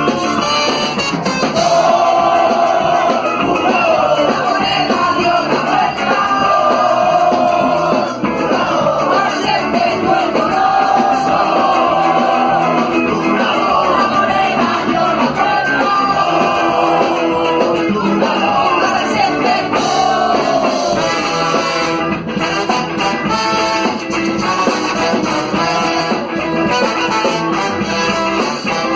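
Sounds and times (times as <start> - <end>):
rock song with singing: 0.0 - 28.9
steady drum beat: 0.0 - 28.9.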